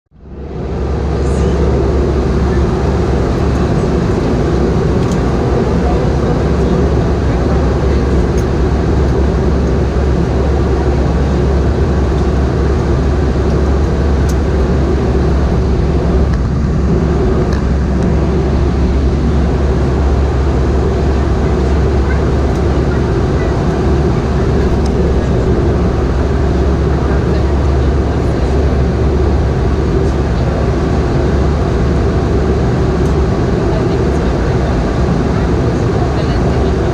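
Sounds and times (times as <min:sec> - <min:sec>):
aircraft cabin drone: 0:00.1 - 0:36.9
rushing airflow: 0:00.2 - 0:36.9.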